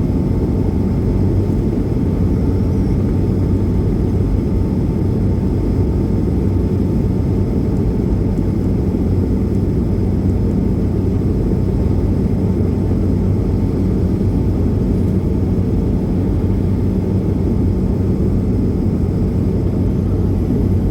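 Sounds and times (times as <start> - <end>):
airliner cabin engine rumble: 0.0 - 20.9.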